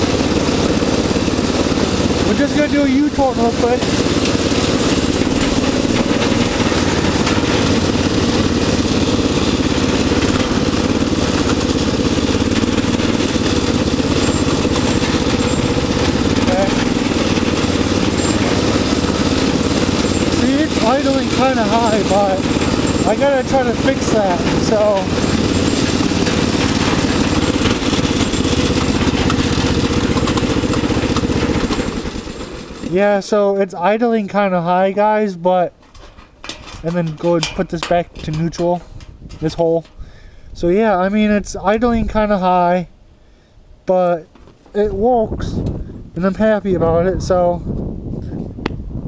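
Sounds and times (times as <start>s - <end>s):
riding lawnmower engine running: 0.0s - 47.7s.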